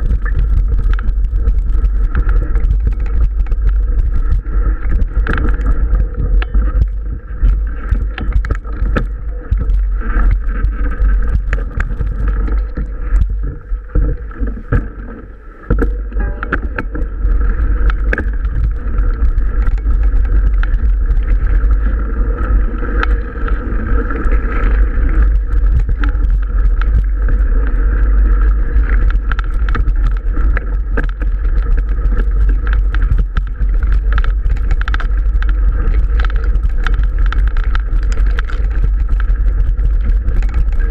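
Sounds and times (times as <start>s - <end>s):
bike rattling and knocking: 0.0s - 40.9s
wind rushing over microphone: 0.0s - 40.9s.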